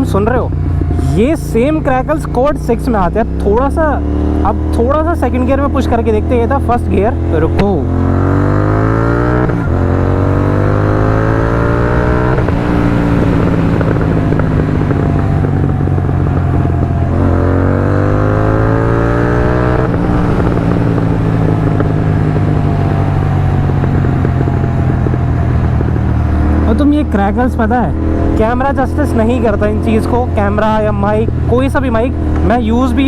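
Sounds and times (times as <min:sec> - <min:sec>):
motorcycle engine revving: 0:00.0 - 0:33.0
exhaust popping and crackling: 0:00.2 - 0:33.0.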